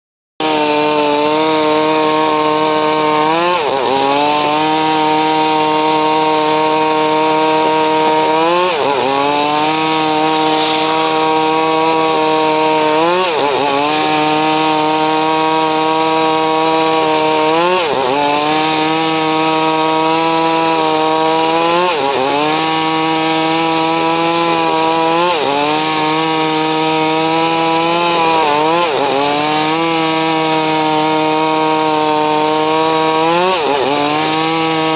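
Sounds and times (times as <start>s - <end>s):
sawmill sawing wood: 0.4s - 34.9s.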